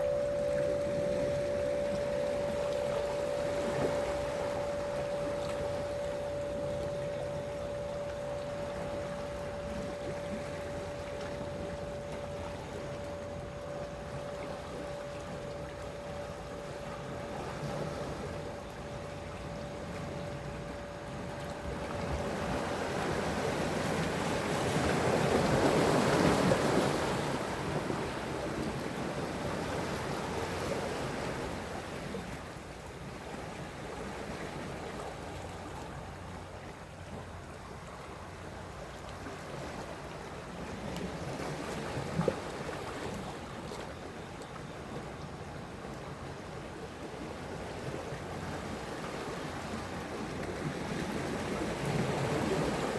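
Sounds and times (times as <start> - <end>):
sea waves washing ashore: 0.0 - 52.9.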